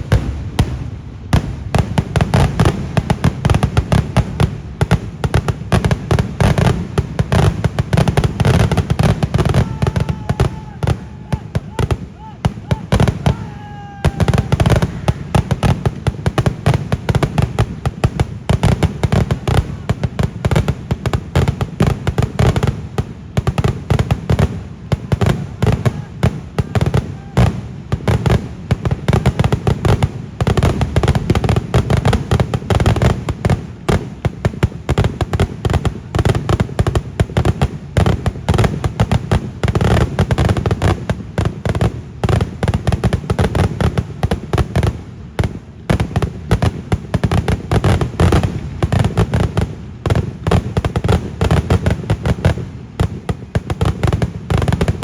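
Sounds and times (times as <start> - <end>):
firecracker barrage: 0.0 - 55.0.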